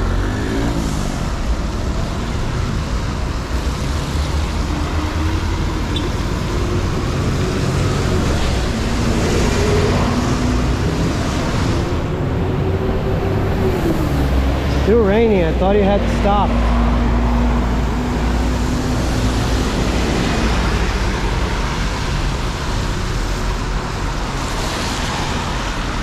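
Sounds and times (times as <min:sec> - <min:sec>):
traffic on wet road: 0:00.0 - 0:26.0.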